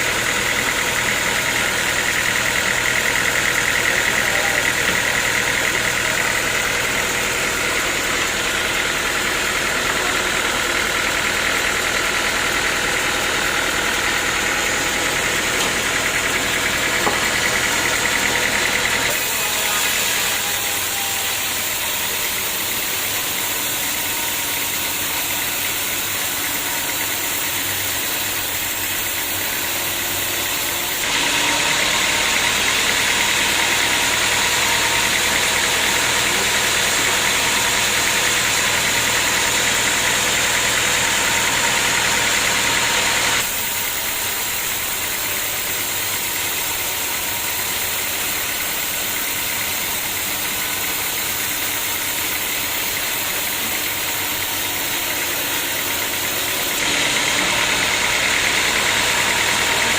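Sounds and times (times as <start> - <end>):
saw blade cutting through log: 0.0 - 59.9
sawmill machinery running: 0.0 - 59.9.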